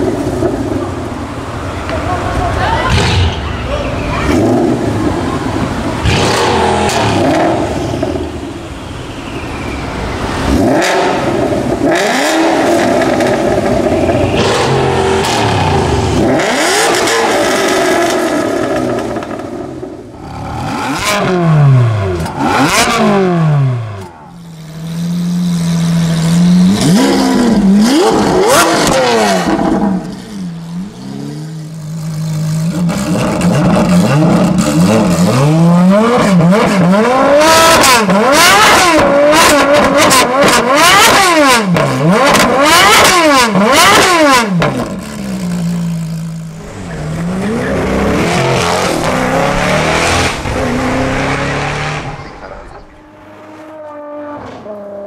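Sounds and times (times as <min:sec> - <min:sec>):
car engine revving: 0:00.0 - 0:08.9, 0:09.5 - 0:55.0.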